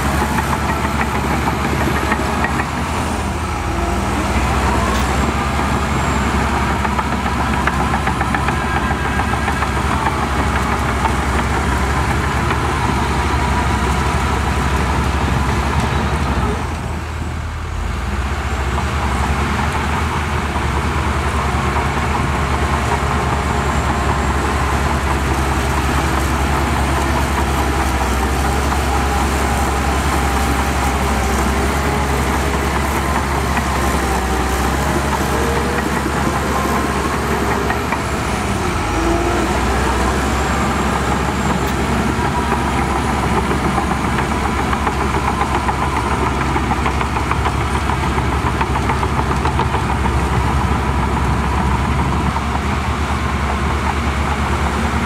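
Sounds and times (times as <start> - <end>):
heavy diesel machinery throbbing: 0.0 - 55.0.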